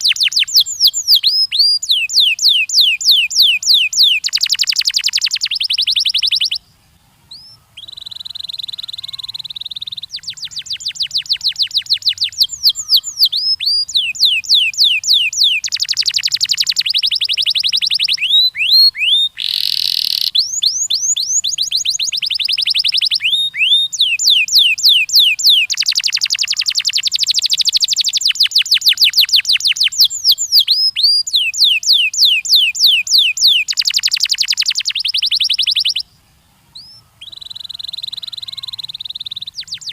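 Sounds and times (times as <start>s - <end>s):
canary singing rapid trills: 0.0s - 6.7s, 7.3s - 39.9s.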